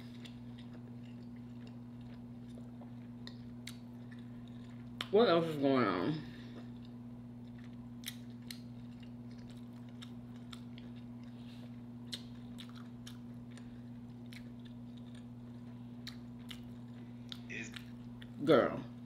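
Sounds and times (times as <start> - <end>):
person chewing: 0.0 - 5.1, 6.5 - 18.4
steady low hum: 0.0 - 19.0.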